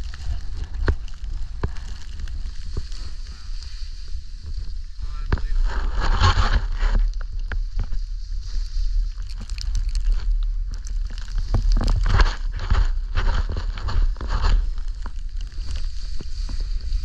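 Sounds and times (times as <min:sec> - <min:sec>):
skis rushing through powder snow: 0:00.0 - 0:17.0
wind rumble on microphone: 0:00.0 - 0:17.0.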